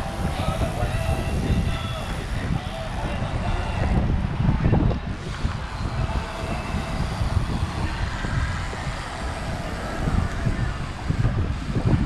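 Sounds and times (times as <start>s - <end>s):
road traffic rumble: 0.0s - 12.0s
wind buffeting microphone: 0.0s - 12.0s.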